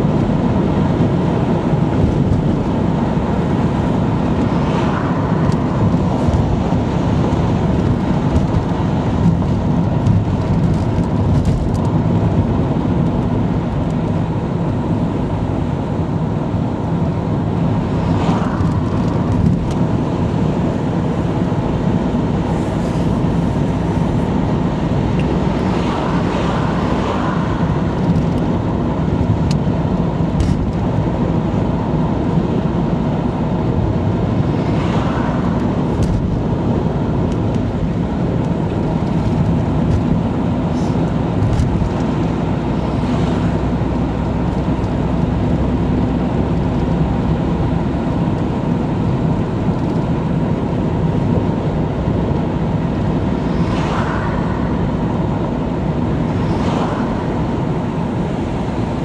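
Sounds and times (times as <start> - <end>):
car engine and tyre noise: 0.0 - 59.0
oncoming traffic passing: 0.0 - 59.0.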